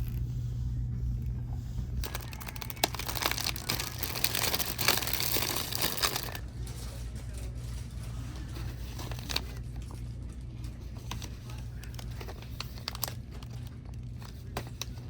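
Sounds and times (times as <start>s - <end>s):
steady low hum: 0.0s - 15.0s
light clicks and crinkles: 2.0s - 15.0s.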